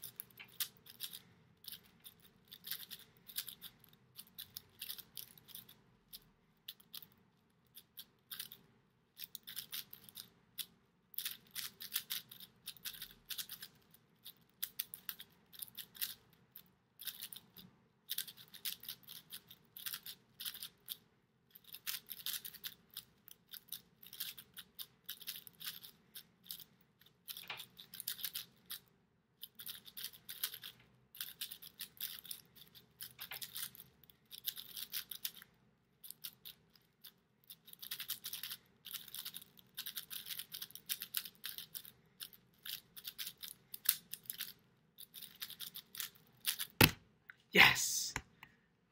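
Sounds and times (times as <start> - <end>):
puzzle cube clicking turns: 0.0 - 47.0.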